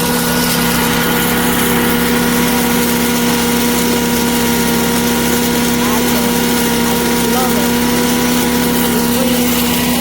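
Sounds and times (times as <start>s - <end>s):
electric grain mill grinding: 0.0s - 10.0s.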